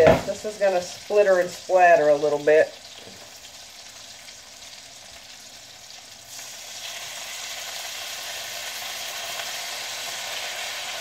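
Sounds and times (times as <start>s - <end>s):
sausage sizzling in a pan: 0.0s - 11.0s.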